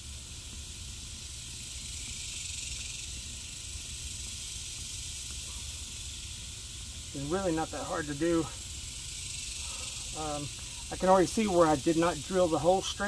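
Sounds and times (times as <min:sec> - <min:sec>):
even hiss: 0:00.0 - 0:13.0.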